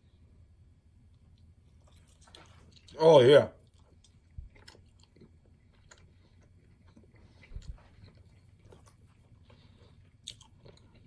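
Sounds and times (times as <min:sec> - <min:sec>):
chewing pizza: 0:01.0 - 0:11.0.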